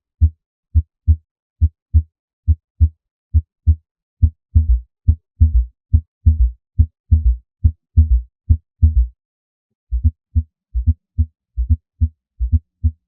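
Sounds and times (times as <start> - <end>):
heartbeat through stethoscope: 0.2 - 9.2, 9.9 - 13.0
low gallop heart sound: 0.2 - 9.2, 9.9 - 13.0.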